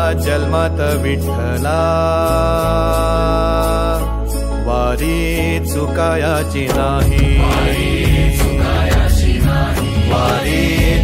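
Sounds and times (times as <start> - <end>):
devotional song with drum beat: 0.0 - 11.0.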